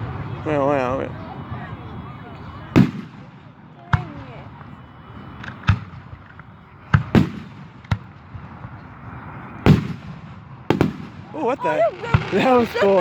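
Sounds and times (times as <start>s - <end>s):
fireworks booming: 2.6s - 13.0s.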